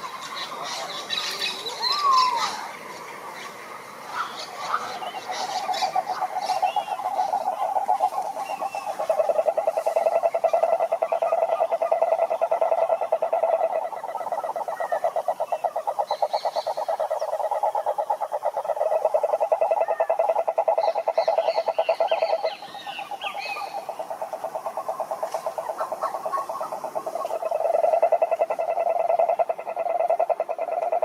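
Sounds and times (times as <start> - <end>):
frogs chirping: 0.0 - 31.0
frogs trilling: 0.0 - 31.0.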